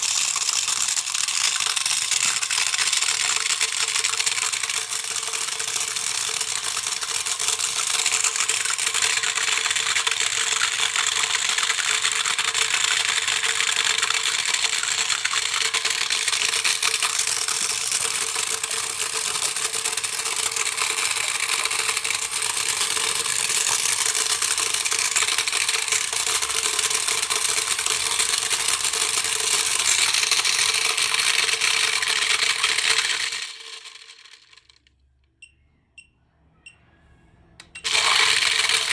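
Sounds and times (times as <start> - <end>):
toy motor whining and rattling: 0.0 - 34.8, 37.7 - 38.9.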